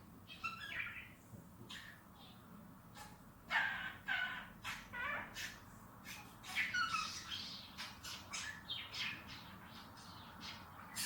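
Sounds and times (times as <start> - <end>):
bird squawking and chirping: 0.3 - 2.4, 3.5 - 11.0.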